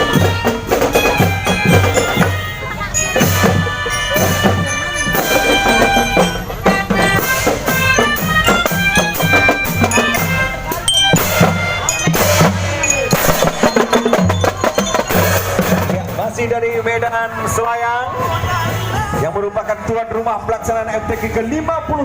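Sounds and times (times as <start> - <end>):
marching drum band playing: 0.0 - 17.6.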